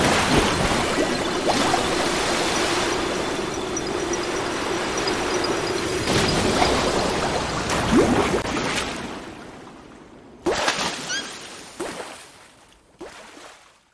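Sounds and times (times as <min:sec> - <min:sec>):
flood water rushing and gurgling: 0:00.0 - 0:12.4
water splashes: 0:00.0 - 0:13.9.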